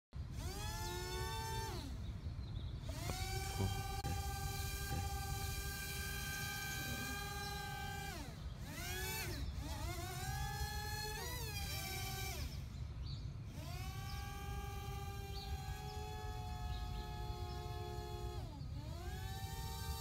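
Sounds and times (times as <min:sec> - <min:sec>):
drone propeller motors whining: 0:00.2 - 0:20.0.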